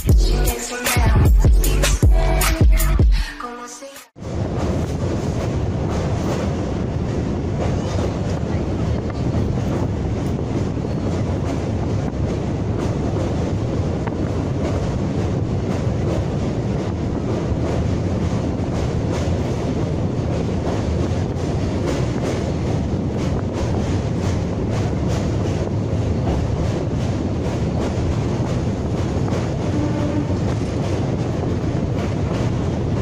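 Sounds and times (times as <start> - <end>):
train wheels rumbling on rails: 4.2 - 33.0.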